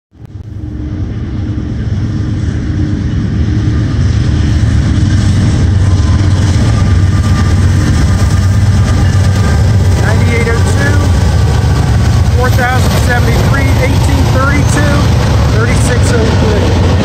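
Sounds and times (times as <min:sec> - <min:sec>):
freight train rumble: 0:00.1 - 0:17.0.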